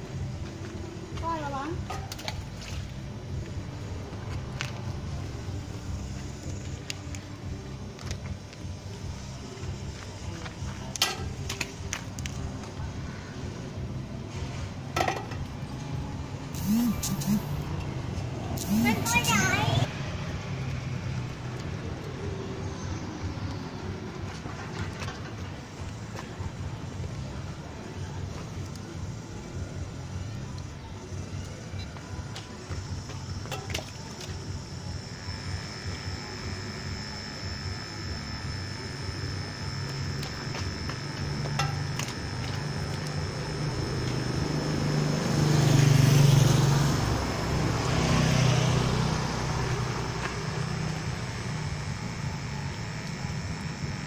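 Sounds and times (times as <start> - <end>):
small electric motors humming: 0.0 - 54.0
thin high whine: 1.8 - 19.9, 25.5 - 54.0.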